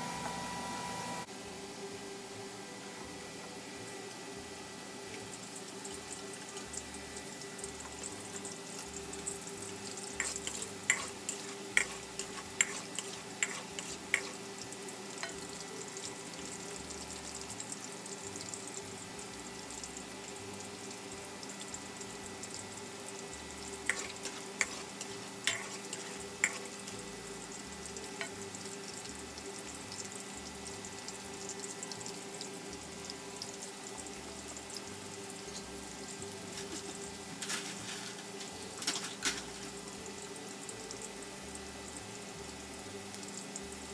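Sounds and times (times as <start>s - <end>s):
eggplant sizzling in oil: 3.6s - 43.9s.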